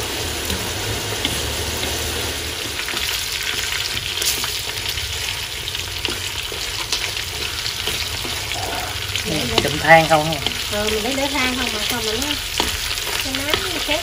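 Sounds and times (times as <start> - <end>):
meat sizzling in hot oil: 0.0 - 14.0
chopsticks turning meat: 2.7 - 14.0.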